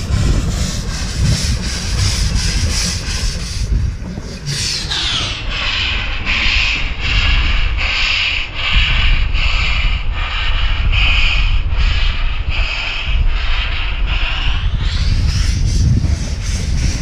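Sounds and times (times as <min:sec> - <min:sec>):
low rumble: 0:00.0 - 0:17.0
steam locomotive chuffing: 0:00.0 - 0:17.0.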